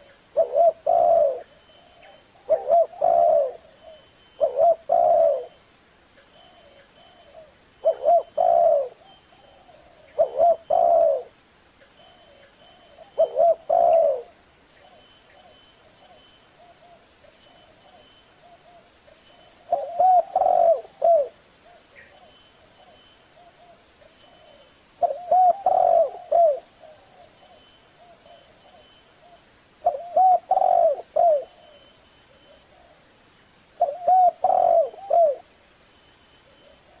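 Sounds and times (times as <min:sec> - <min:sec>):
dove cooing: 0:00.0 - 0:05.6, 0:06.3 - 0:11.4, 0:12.0 - 0:33.1, 0:33.8 - 0:35.5, 0:36.4 - 0:37.0.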